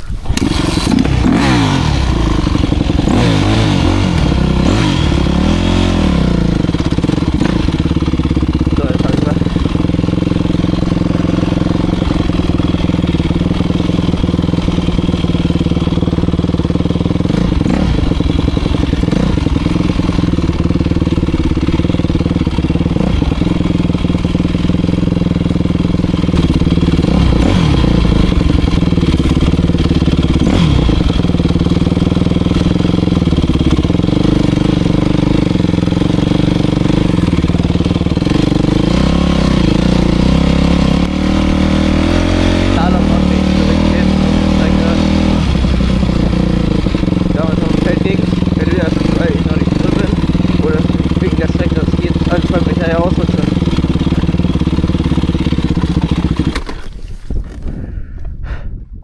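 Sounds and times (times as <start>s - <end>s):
dirt bike engine running: 0.0s - 58.7s.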